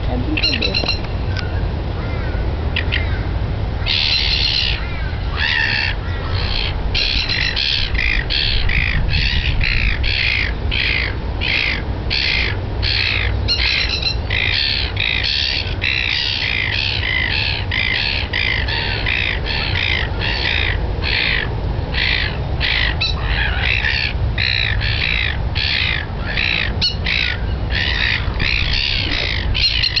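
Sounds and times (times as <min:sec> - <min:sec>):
steady low rumble: 0:00.0 - 0:30.0
bird squawking harshly: 0:00.3 - 0:30.0.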